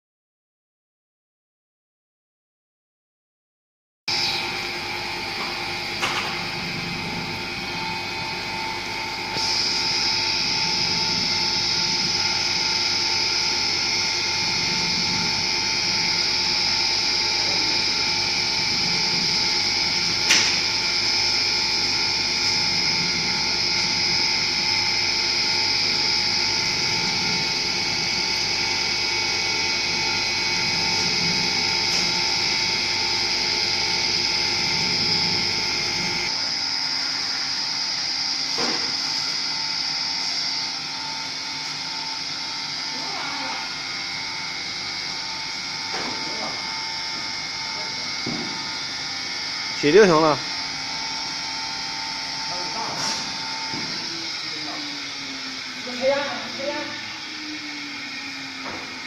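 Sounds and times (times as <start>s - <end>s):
fryer mechanical whine and churn: 4.1s - 59.0s.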